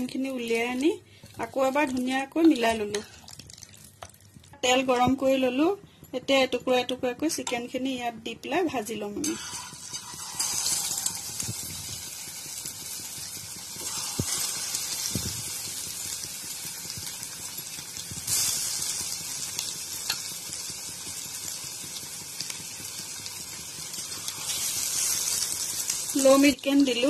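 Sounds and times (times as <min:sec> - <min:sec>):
chicken deep-frying in hot oil: 0:00.0 - 0:04.6, 0:09.2 - 0:27.0.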